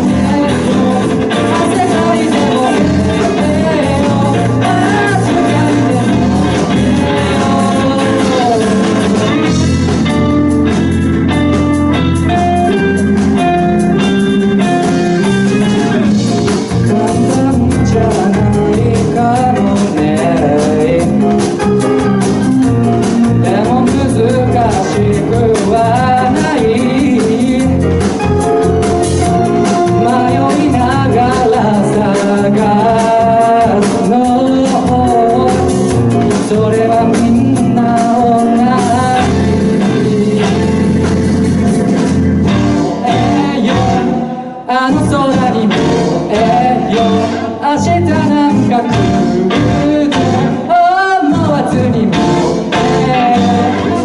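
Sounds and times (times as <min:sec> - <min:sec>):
drum beat: 0:00.0 - 0:44.2
keyboard: 0:00.0 - 0:54.0
live band playing pop song: 0:00.0 - 0:54.0
person singing: 0:00.0 - 0:54.0.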